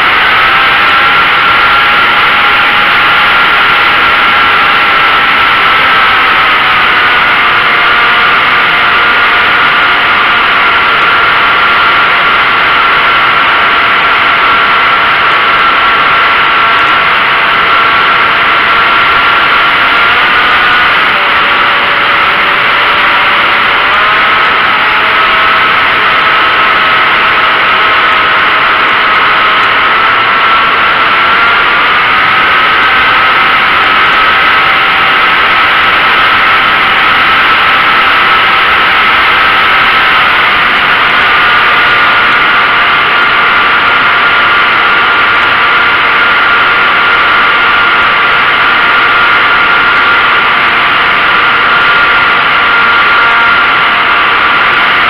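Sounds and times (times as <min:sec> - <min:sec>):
model airplane motor whine: 0:00.0 - 0:55.0.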